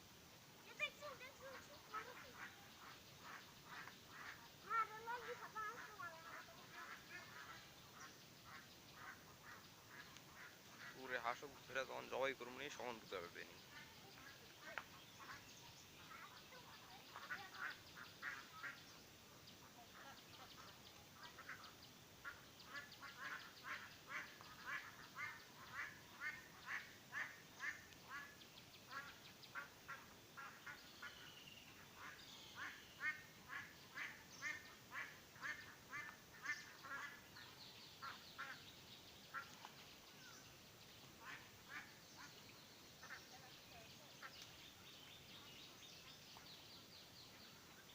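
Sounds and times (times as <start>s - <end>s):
poultry short repeated calls: 0.7s - 19.0s, 19.6s - 38.6s, 41.2s - 42.4s, 43.0s - 43.5s.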